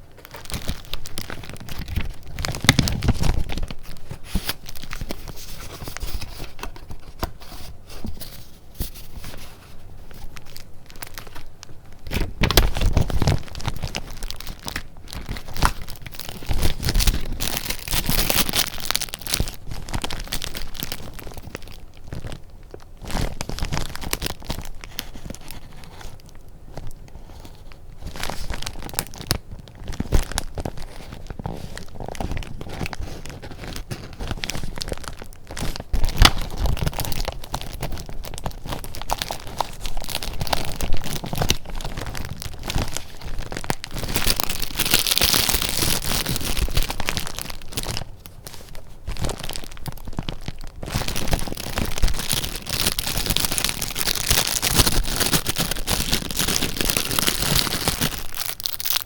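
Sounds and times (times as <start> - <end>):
paper rustling and crinkling: 0.0 - 59.0.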